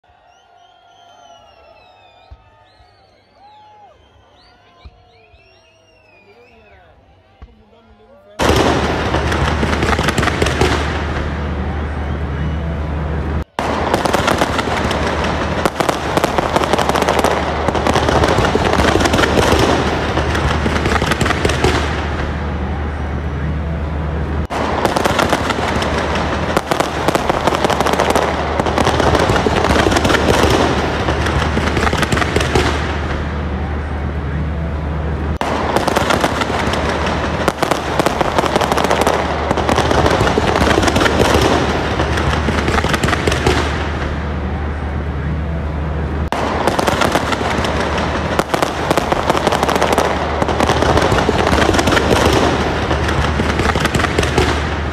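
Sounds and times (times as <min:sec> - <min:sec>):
fireworks bangs and crackles: 0:00.0 - 0:05.7, 0:08.4 - 0:54.9.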